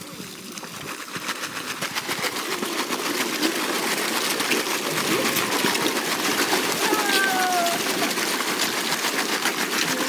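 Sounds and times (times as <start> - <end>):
fish gulping and splashing: 0.0 - 10.0.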